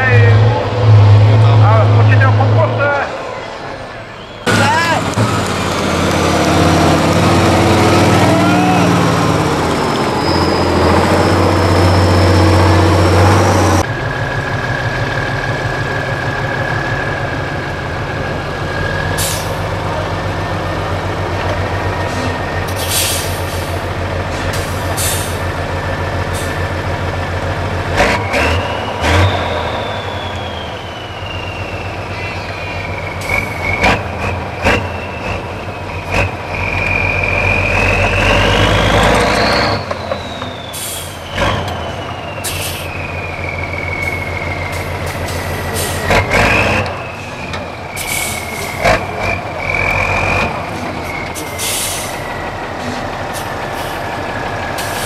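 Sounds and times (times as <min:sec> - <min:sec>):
truck diesel engine labouring: 0:00.0 - 0:55.0.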